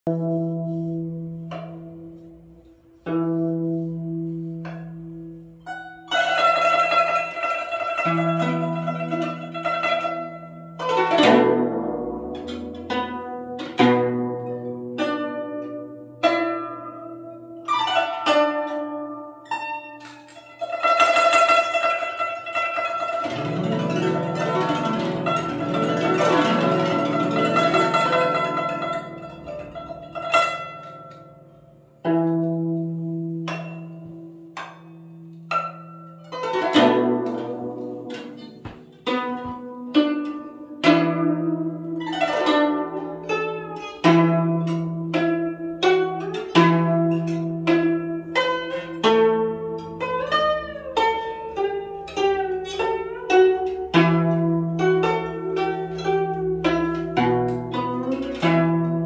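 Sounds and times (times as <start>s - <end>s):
plucked zither notes: 0.0s - 59.0s.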